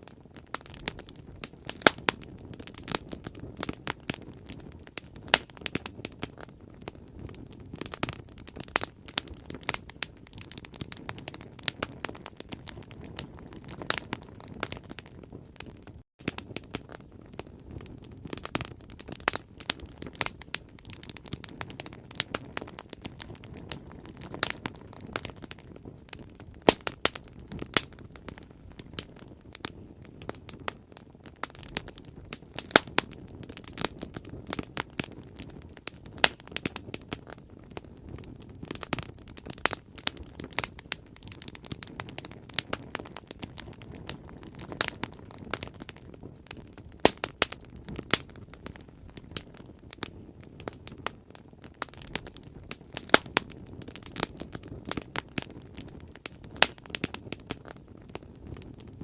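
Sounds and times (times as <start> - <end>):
bonfire crackling and popping: 0.0 - 59.0
low rush of flames: 0.0 - 59.0.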